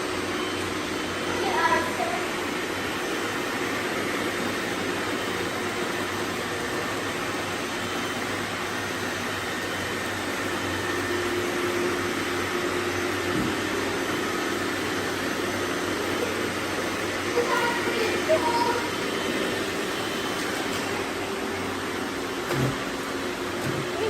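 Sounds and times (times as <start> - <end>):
robot vacuums humming: 0.0 - 24.0.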